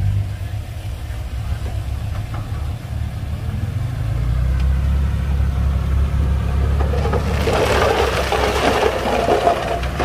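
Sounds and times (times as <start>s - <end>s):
heavy diesel engine drone: 0.0s - 10.0s.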